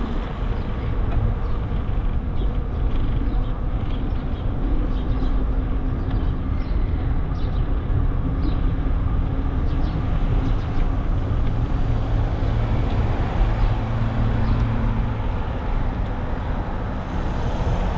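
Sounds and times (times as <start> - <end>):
vehicle engine hum: 0.0 - 17.9
wind and road noise rumble: 0.0 - 17.9.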